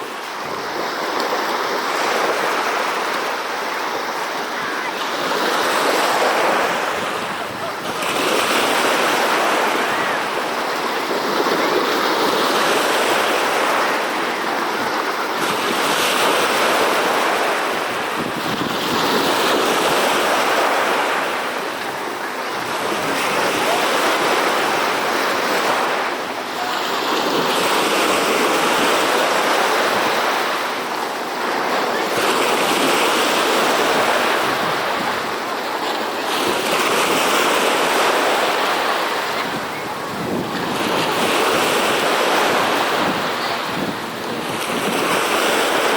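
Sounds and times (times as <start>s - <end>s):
sea waves breaking: 0.0s - 45.9s.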